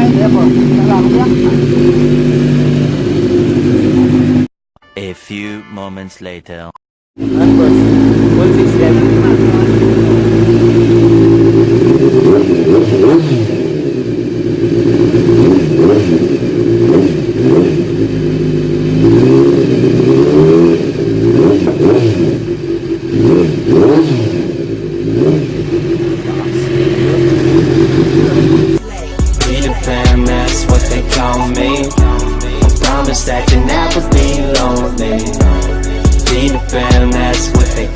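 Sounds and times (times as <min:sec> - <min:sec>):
motorcycle engine revving: 0:00.0 - 0:04.5, 0:07.2 - 0:37.9.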